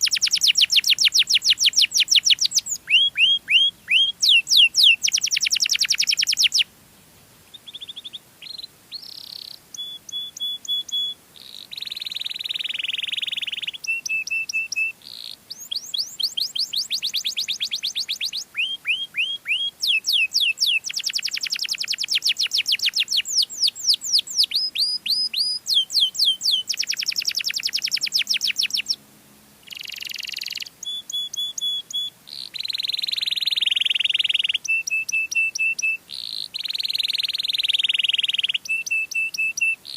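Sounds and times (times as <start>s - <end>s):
canary singing: 0.0s - 6.7s, 7.4s - 29.0s, 29.6s - 39.9s.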